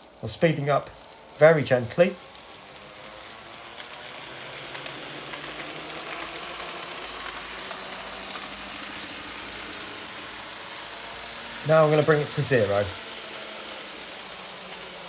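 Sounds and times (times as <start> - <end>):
model train motor whirring: 0.0 - 15.0.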